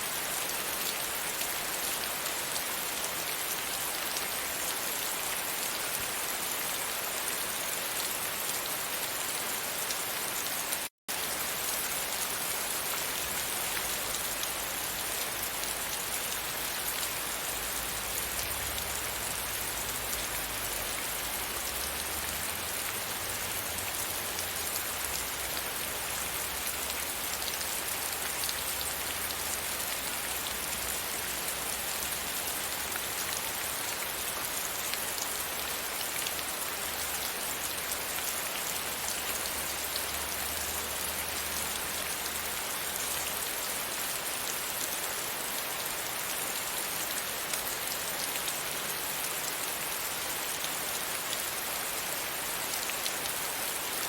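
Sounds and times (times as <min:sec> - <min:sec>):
rain on a window pane: 0:00.1 - 0:54.0.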